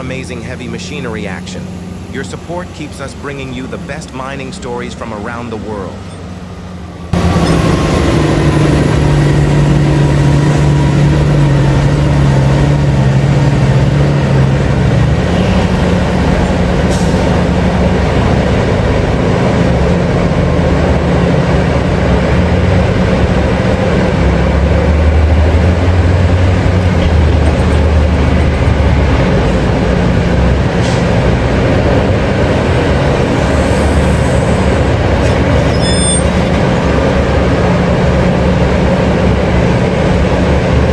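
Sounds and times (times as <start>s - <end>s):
heavy diesel machinery engine drone: 0.0s - 40.9s.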